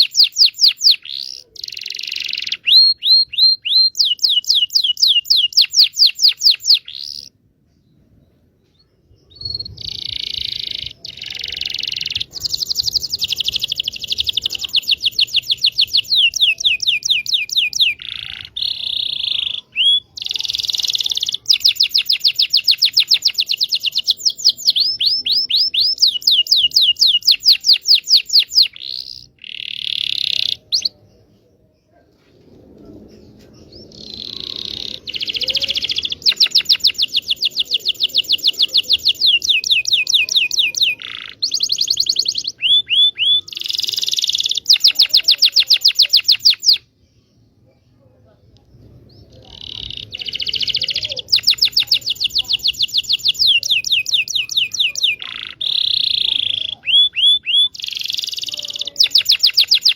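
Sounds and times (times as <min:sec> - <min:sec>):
canary singing: 0:00.0 - 0:07.4, 0:09.2 - 0:31.2, 0:33.6 - 0:47.0, 0:49.1 - 0:59.9.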